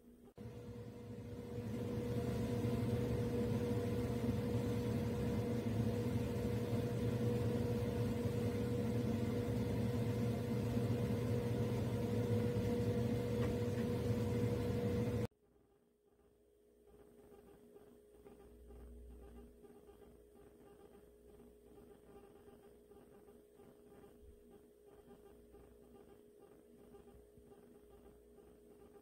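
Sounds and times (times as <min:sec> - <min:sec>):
machine hum with steady tone: 0:00.0 - 0:29.0.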